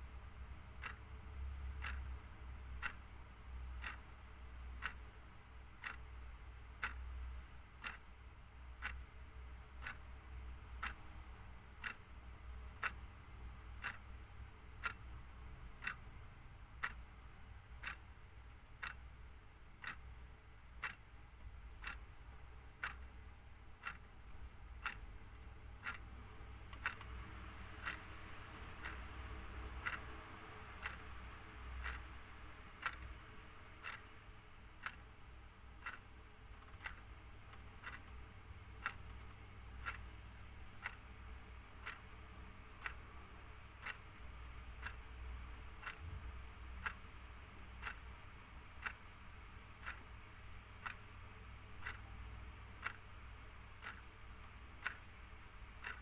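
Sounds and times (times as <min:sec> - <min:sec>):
faint low hum: 0:00.0 - 0:56.0
mechanical clock ticking: 0:00.0 - 0:56.0.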